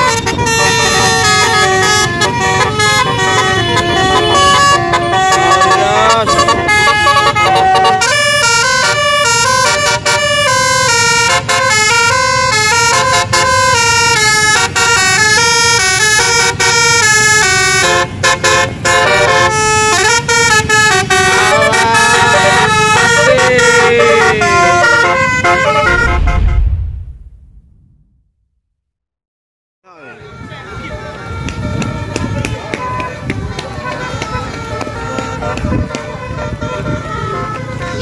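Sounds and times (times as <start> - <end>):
multi-tone bus horn melody: 0.0 - 26.5, 30.0 - 38.0
engines rumbling: 0.0 - 28.1, 30.2 - 38.0.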